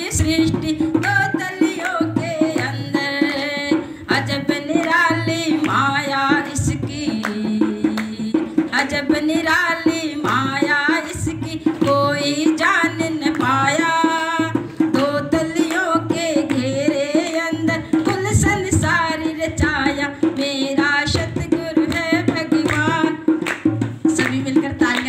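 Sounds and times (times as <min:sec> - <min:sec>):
hand drum steady rhythm: 0:00.0 - 0:25.0
woman singing into a microphone: 0:00.0 - 0:25.0.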